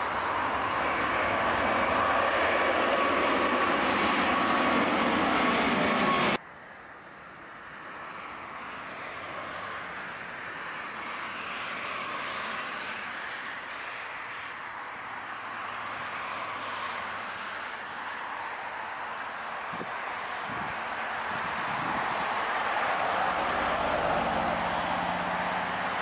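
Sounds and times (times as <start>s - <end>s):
jet airliner roaring overhead: 0.0s - 26.0s.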